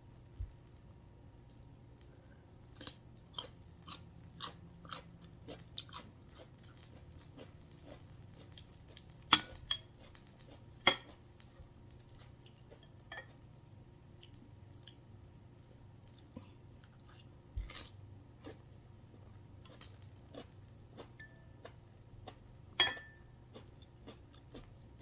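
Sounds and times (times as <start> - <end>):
chewing and crunching food: 0.2 - 25.0.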